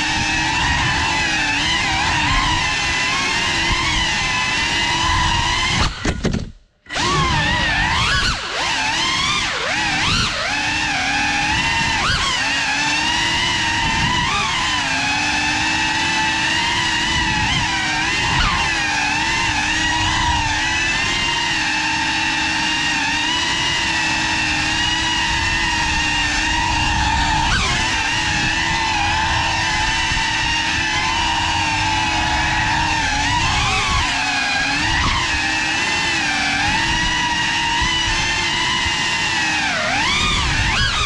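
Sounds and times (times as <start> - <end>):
drone propellers whining: 0.0 - 6.3, 6.9 - 41.0.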